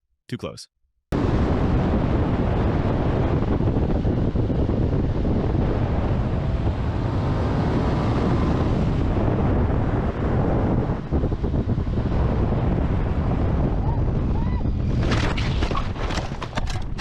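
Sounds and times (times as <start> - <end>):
wind buffeting microphone: 1.1 - 17.0
motorcycle running: 1.2 - 17.0.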